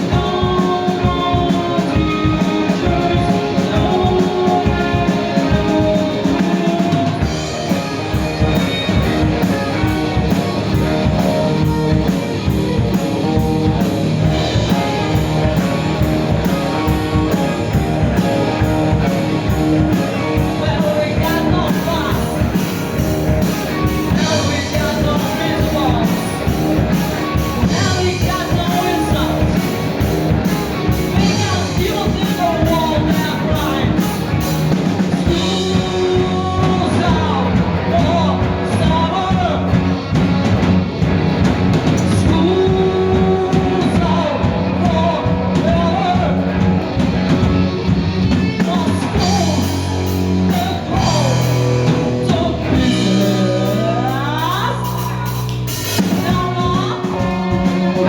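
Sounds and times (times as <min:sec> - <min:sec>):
person singing: 0:00.0 - 0:39.8, 0:42.0 - 0:46.6, 0:48.3 - 0:58.0
rock and roll band playing: 0:00.0 - 0:58.0.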